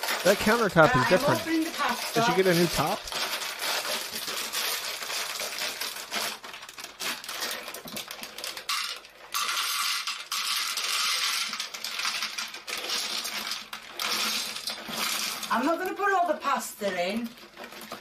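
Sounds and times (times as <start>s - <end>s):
dry pasta rattling in metal pan: 0.0s - 18.0s.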